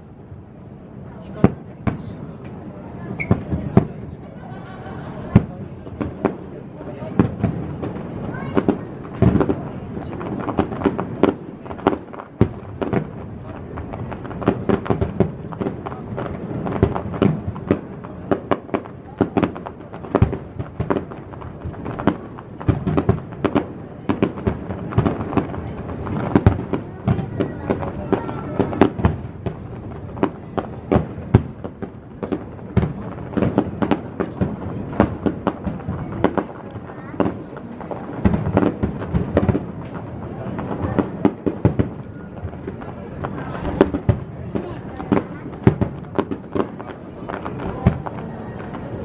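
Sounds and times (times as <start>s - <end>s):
fireworks bursting with sharp bangs: 0.0s - 49.0s.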